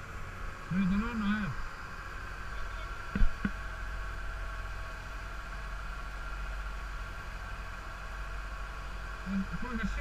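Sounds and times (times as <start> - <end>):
motor boat engine rumbling: 0.0 - 10.0.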